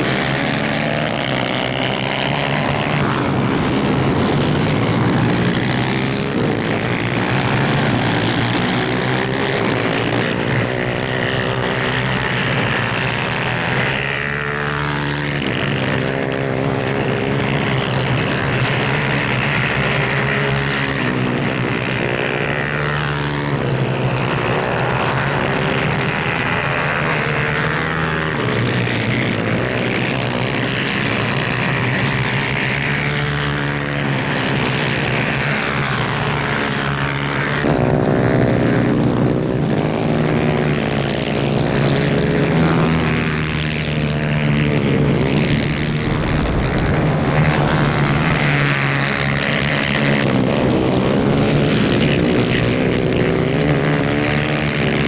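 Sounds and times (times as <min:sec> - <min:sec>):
kart engines racing: 0:00.0 - 0:55.0.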